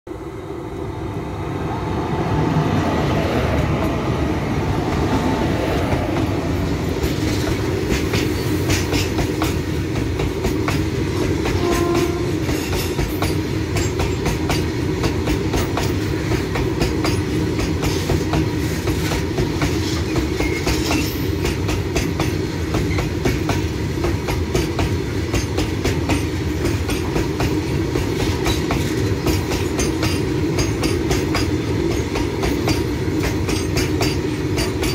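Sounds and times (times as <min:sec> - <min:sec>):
freight train rumble: 0:00.1 - 0:34.9.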